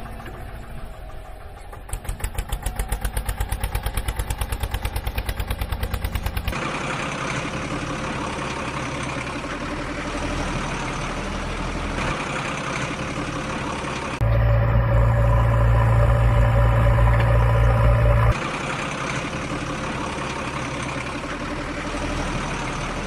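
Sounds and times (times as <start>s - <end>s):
loud deep engine idling: 0.0s - 23.0s
truck engine idling: 0.0s - 23.0s.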